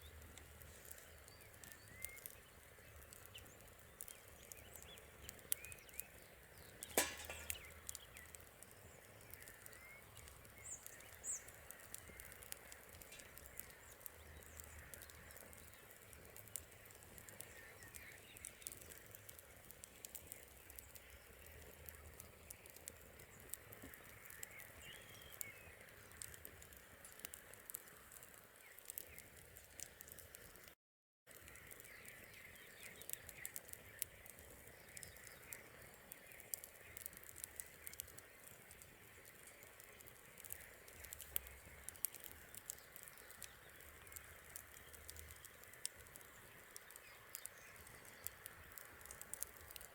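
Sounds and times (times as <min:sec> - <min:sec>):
birds chirping faintly: 0:00.0 - 0:30.7, 0:31.3 - 0:49.9
campfire crackling and popping: 0:00.0 - 0:49.9.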